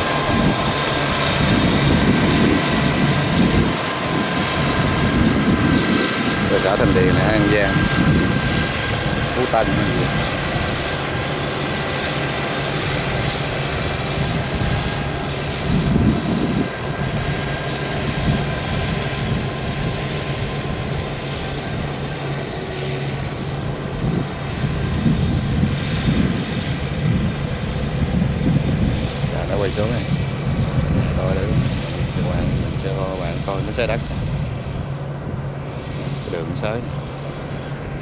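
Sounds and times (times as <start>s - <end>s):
diesel engine droning: 0.0s - 38.0s.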